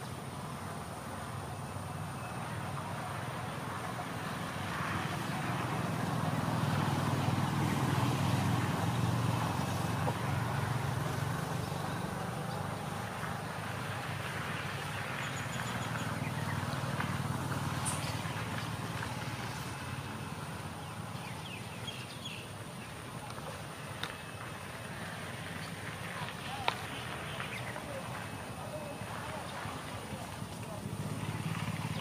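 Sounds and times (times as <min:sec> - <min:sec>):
faint outdoor hiss: 0:00.0 - 0:32.0
low engine hum: 0:00.0 - 0:32.0.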